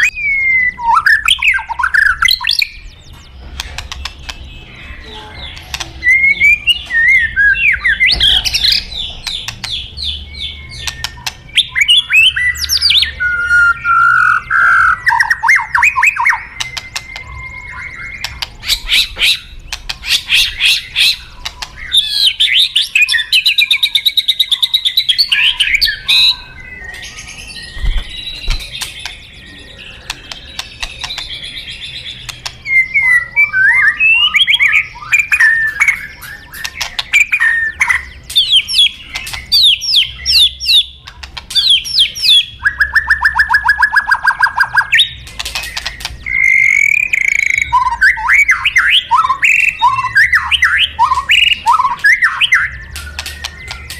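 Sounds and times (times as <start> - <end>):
songbird singing varied song: 0.0 - 53.9.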